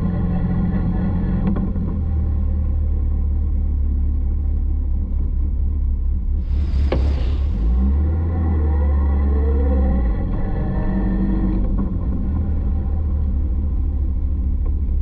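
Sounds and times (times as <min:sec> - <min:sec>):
car engine at low revs: 0:00.0 - 0:15.0.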